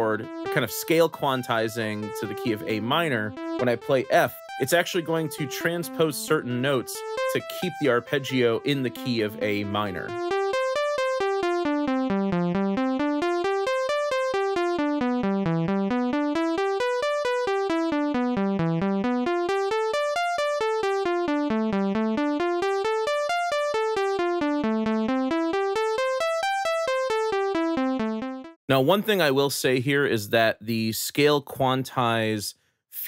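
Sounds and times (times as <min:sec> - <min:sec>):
synthesizer arpeggio: 0:00.0 - 0:28.6.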